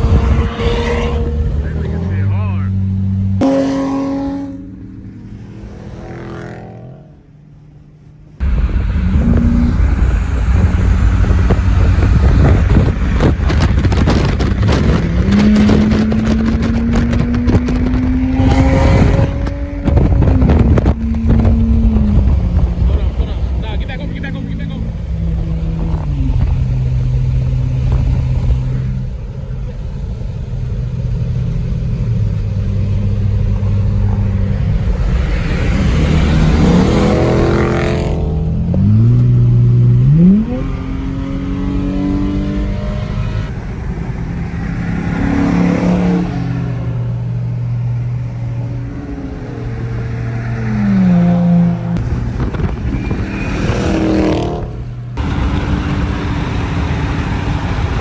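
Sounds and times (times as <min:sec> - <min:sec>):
cars revving and accelerating: 0:00.0 - 0:07.4, 0:08.4 - 0:58.0.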